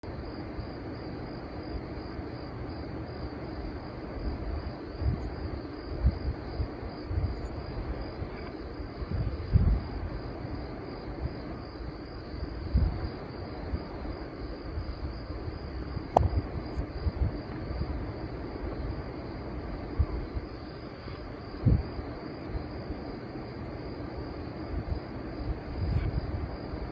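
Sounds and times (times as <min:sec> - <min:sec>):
crickets chirring: 0:00.0 - 0:26.9.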